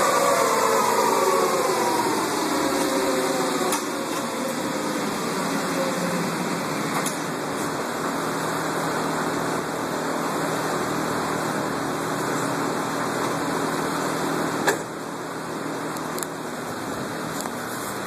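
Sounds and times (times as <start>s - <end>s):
fan-like whir: 0.0s - 18.0s.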